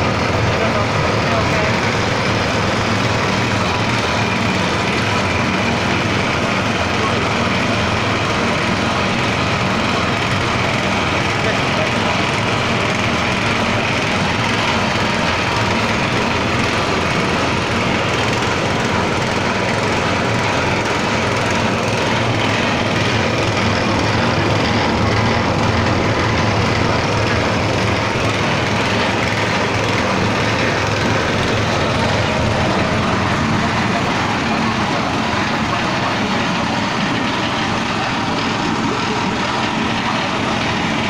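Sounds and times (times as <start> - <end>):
feed mixer machine running: 0.0 - 41.0.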